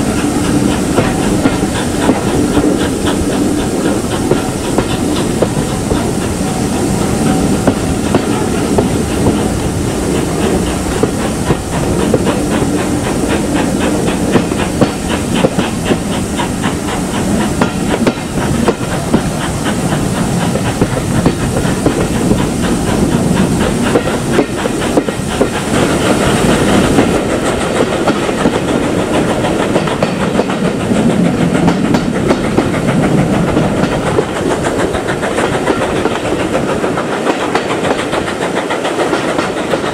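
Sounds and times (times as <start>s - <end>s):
steam hissing: 0.0s - 39.9s
train wheels clickety-clack: 0.0s - 39.9s.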